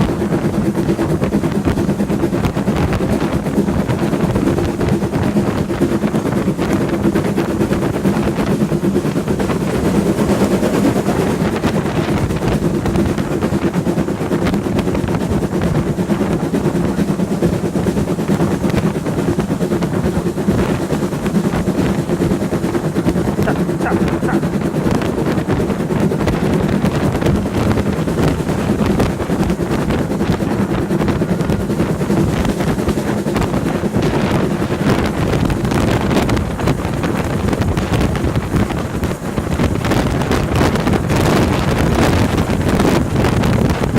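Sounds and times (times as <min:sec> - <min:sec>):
train wheels rattling on rails: 0:00.0 - 0:43.9.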